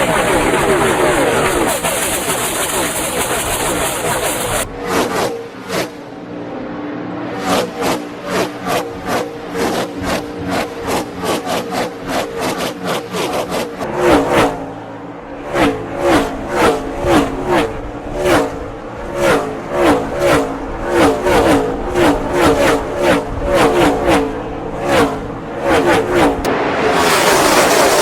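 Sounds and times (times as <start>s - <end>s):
race cars passing at full speed: 0.0s - 28.0s.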